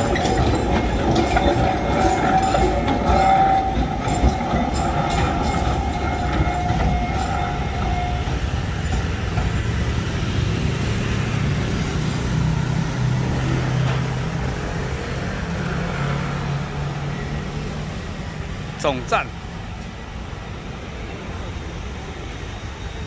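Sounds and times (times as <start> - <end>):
train wagons clicking over rails: 0.0 - 20.4
high squeal of train wheels: 0.0 - 23.0.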